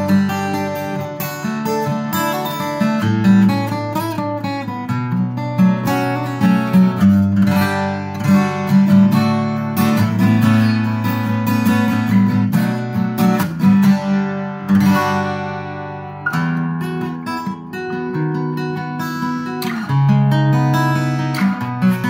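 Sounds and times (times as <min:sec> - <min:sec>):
acoustic guitar picking and strumming: 0:00.0 - 0:22.0.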